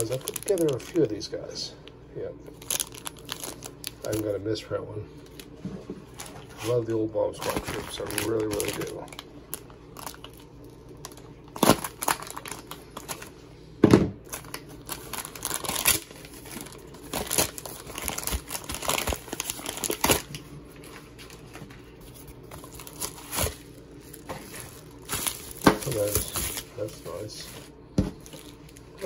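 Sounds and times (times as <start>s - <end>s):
plastic bag crinkling: 0.0s - 1.3s, 2.5s - 4.4s, 5.2s - 13.3s, 14.2s - 29.0s.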